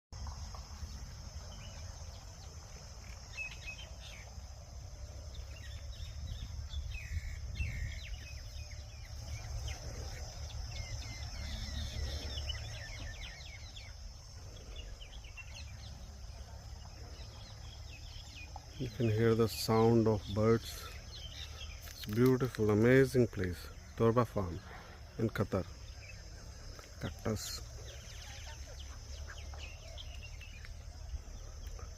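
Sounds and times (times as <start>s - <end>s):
small birds chirping: 0.2s - 31.9s.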